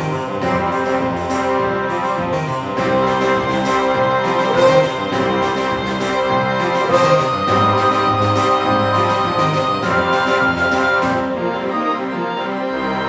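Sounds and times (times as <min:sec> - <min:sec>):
orchestral organ-like chords: 0:00.0 - 0:13.0.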